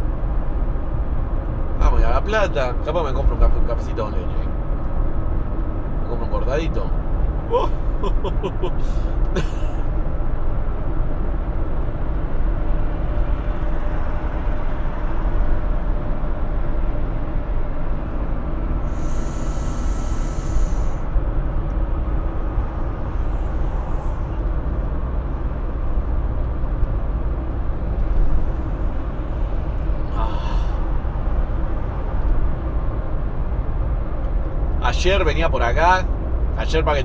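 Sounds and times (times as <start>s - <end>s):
van engine and road noise: 0.0s - 37.0s.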